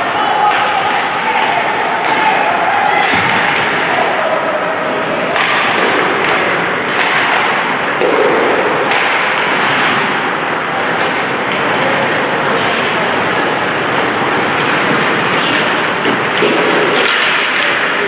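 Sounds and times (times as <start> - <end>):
hockey sticks and puck knocks: 0.4 - 18.0.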